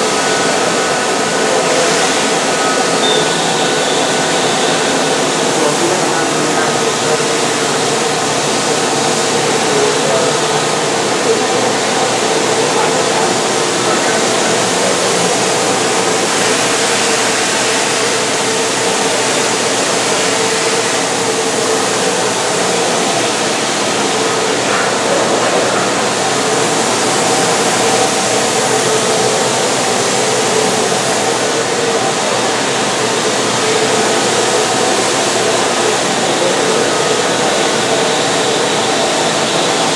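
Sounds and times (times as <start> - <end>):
machining center whirring: 0.0 - 39.9.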